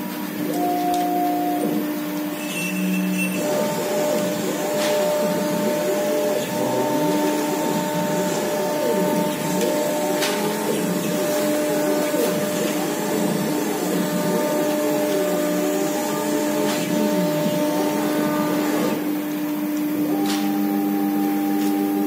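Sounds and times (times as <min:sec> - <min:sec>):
router spindle whine: 0:00.0 - 0:22.0.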